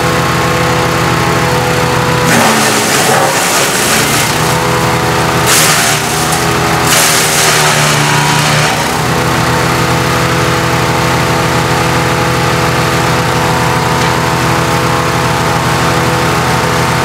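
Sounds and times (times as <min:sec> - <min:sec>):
petrol engine running steadily: 0:00.0 - 0:17.0.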